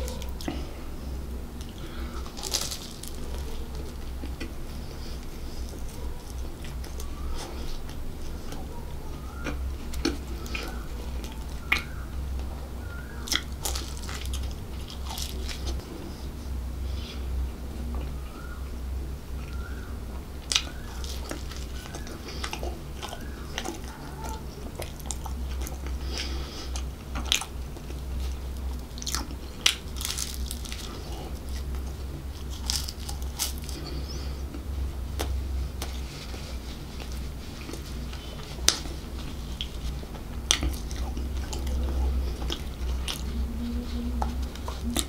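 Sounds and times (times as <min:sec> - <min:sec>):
chewing flaky pastry: 0:00.0 - 0:45.0
low hum: 0:00.0 - 0:45.0.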